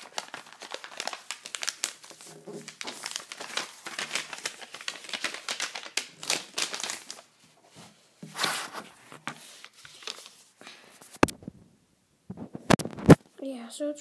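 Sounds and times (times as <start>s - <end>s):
crinkling and rustling: 0.0s - 11.6s, 12.3s - 13.2s.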